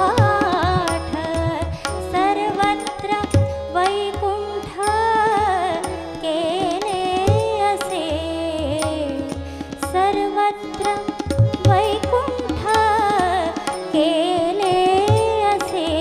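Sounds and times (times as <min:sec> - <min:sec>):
harmonium held notes: 0:00.0 - 0:16.0
tabla strokes: 0:00.0 - 0:16.0
woman singing: 0:00.0 - 0:16.0.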